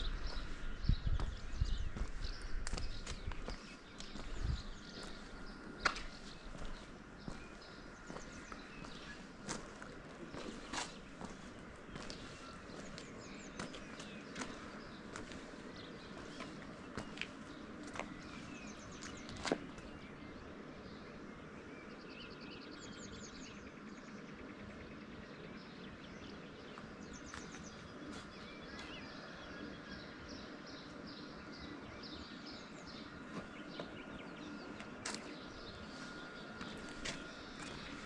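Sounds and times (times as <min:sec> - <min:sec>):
faint outdoor background: 0:00.0 - 0:38.0
songbirds trilling and chirping: 0:00.0 - 0:38.0.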